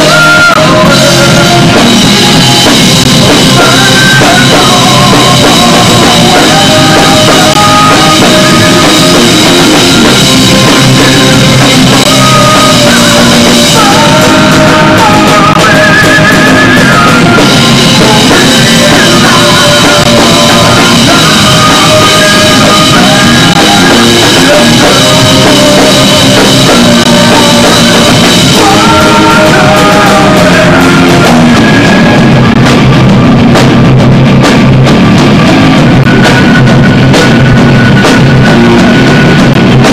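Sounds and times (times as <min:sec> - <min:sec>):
person singing: 0:00.0 - 0:33.6
rock band playing live: 0:00.0 - 0:39.9.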